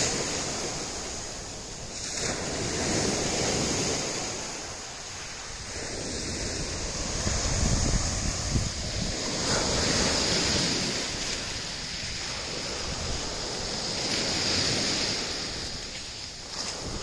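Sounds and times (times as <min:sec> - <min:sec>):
waves washing on pebble beach: 0:00.0 - 0:17.0.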